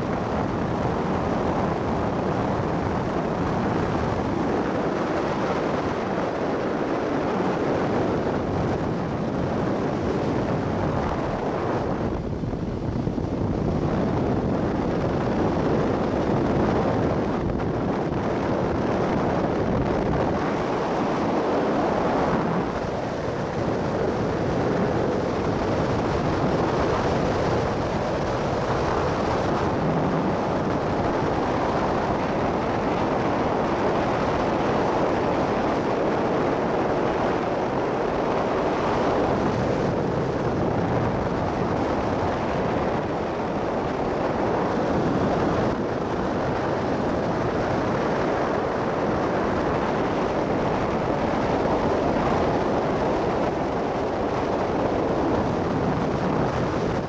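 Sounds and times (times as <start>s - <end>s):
wind rushing on microphone: 0.0s - 57.0s.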